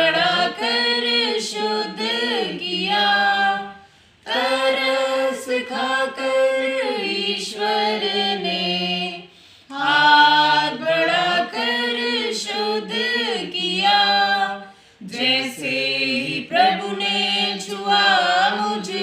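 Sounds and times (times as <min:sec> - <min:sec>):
group singing a hymn unaccompanied: 0:00.0 - 0:19.0.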